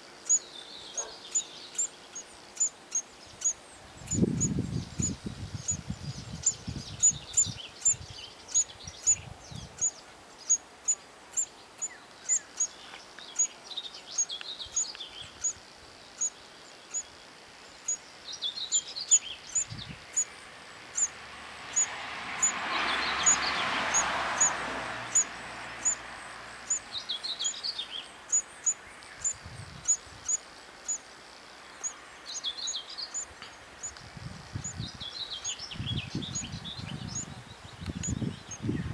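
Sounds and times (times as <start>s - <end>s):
nestlings high chirping: 0.2s - 20.3s, 20.9s - 21.1s, 21.7s - 26.0s, 26.6s - 38.7s.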